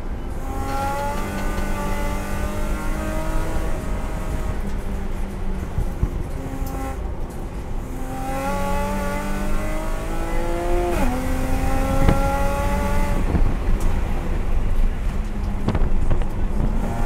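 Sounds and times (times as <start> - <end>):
race car engine accelerating: 0.3 - 7.0, 7.8 - 14.9.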